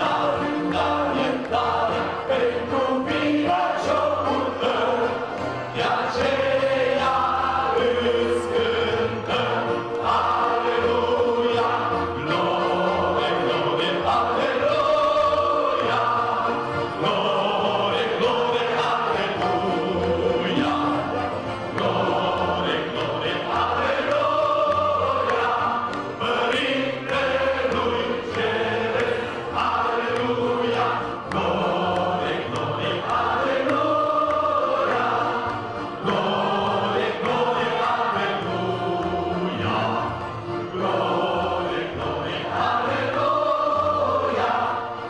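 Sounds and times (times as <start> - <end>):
accordion: 0.0 - 45.0
congregation singing a hymn: 0.0 - 45.0.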